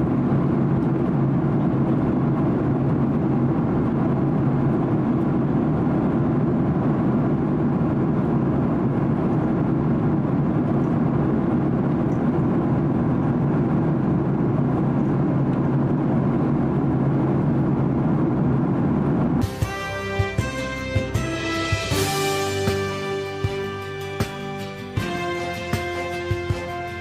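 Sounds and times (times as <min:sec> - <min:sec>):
airliner cabin noise: 0:00.0 - 0:27.0.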